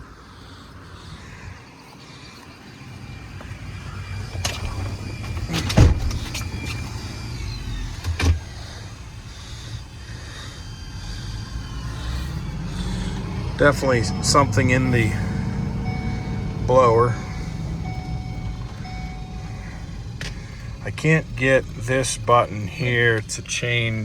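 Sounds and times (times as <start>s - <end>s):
low hum: 0.0s - 23.6s.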